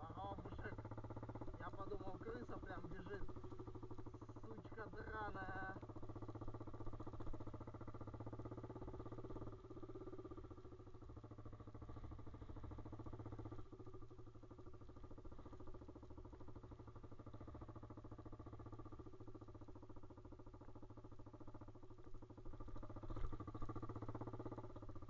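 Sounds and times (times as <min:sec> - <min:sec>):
small motorbike engine running: 0:00.0 - 0:25.0.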